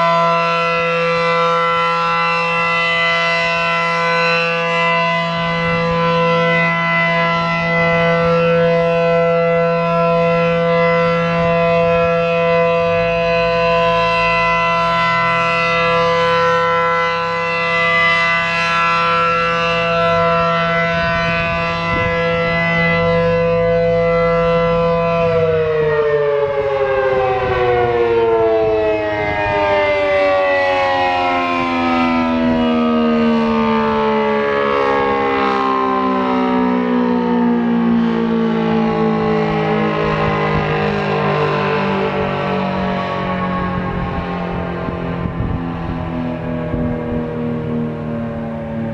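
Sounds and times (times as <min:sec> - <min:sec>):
siren winding down: 0:00.0 - 0:48.9
warning siren steady tone: 0:00.0 - 0:48.9.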